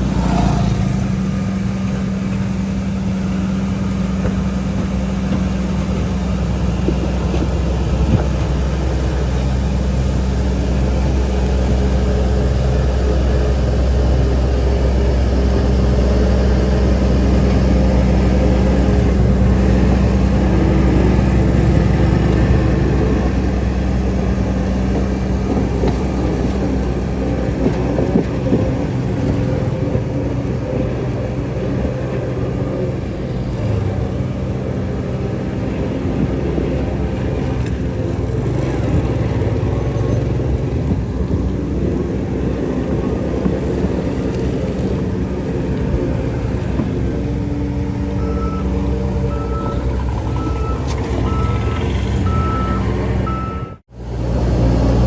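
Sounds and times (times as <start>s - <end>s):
heavy diesel machinery engine drone: 0.0s - 55.0s.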